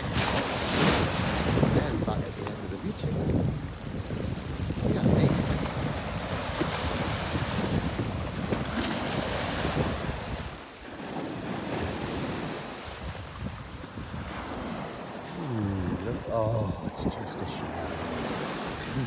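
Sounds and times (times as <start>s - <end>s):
small waves washing over pebbles: 0.0s - 19.0s
wind buffeting microphone: 0.0s - 19.0s.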